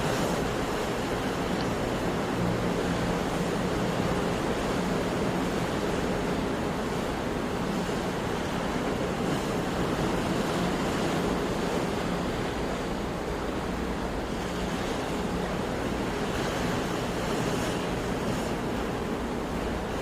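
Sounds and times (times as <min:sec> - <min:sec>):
sea surf washing ashore: 0:00.0 - 0:20.0.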